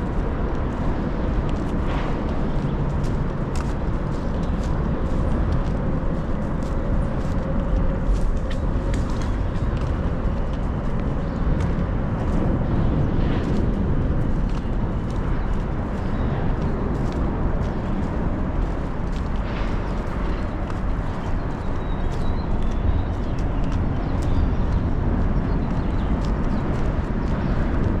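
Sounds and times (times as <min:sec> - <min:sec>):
highway traffic rumble: 0:00.0 - 0:28.0.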